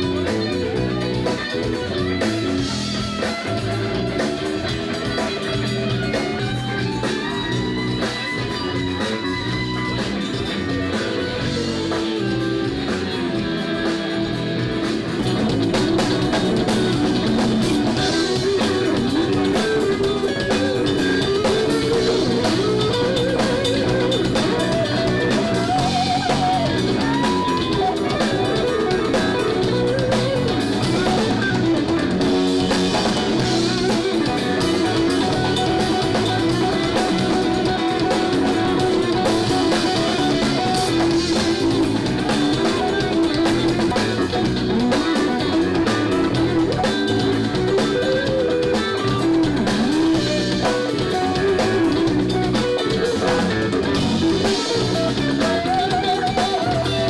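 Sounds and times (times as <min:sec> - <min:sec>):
drum kit: 0:00.0 - 0:57.0
electric bass: 0:00.0 - 0:57.0
electric guitar bending notes: 0:00.0 - 0:57.0.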